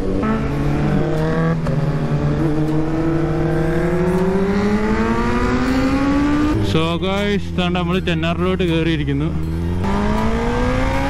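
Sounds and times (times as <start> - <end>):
motorcycle engine accelerating: 0.0 - 7.3, 9.3 - 11.0.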